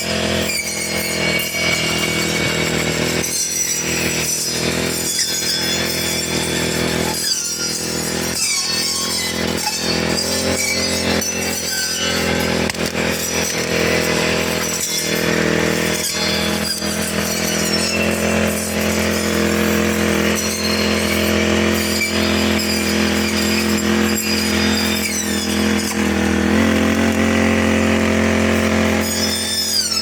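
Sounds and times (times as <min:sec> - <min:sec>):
brush cutter engine running: 0:00.0 - 0:30.0.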